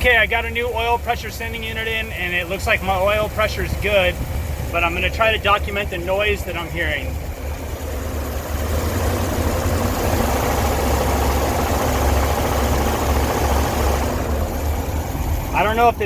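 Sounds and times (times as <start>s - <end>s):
road and cab noise: 0.0s - 16.0s
van engine running: 0.0s - 16.0s.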